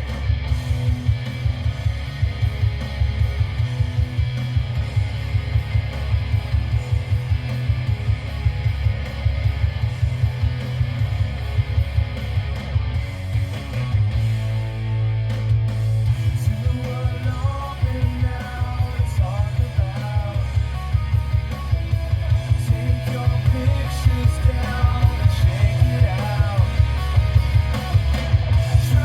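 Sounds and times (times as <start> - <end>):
guitar music with heavy bass: 0.0 - 29.0.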